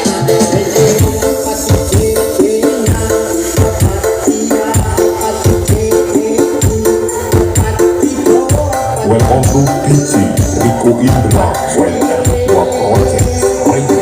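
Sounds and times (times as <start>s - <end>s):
dance music from sound system: 0.0s - 14.0s
heavy bass drum beat: 0.0s - 14.0s.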